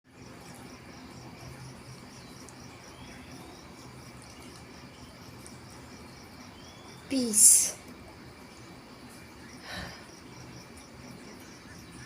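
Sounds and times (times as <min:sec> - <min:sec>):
crickets chirping: 0:00.1 - 0:12.0
faint low hum: 0:00.1 - 0:12.0.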